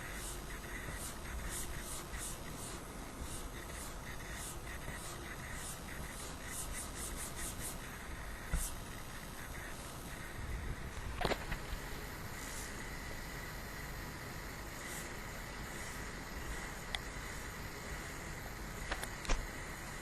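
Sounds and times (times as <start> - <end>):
laptop coil whine hiss and chirps: 0.0 - 20.0.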